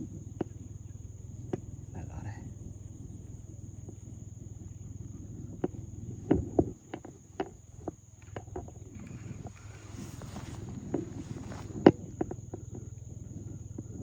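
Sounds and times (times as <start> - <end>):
crickets shrilling: 0.0 - 14.0.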